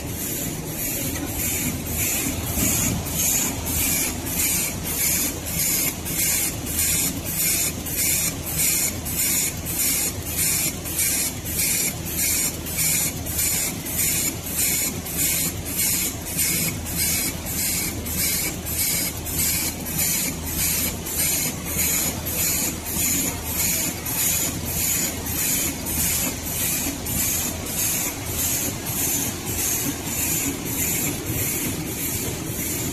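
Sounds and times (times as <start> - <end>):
rhythmic machine hissing: 0.0 - 32.9
steady mechanical hum: 0.0 - 32.9.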